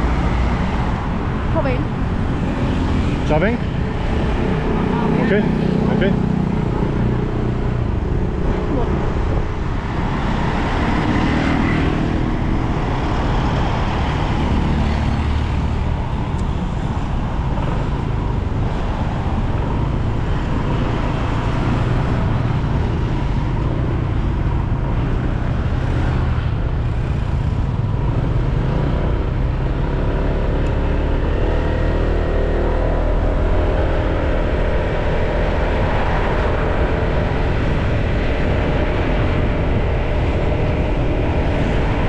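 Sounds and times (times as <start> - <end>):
road and traffic noise: 0.0 - 42.0.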